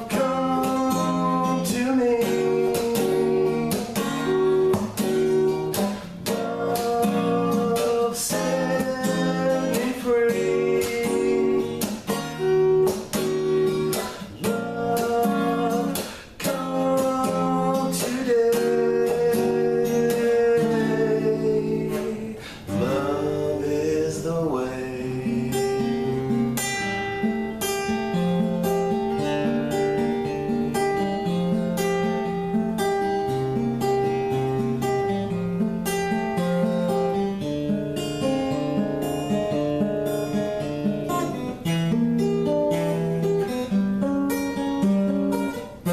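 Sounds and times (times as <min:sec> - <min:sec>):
acoustic guitar strumming and picking: 0:00.0 - 0:45.9.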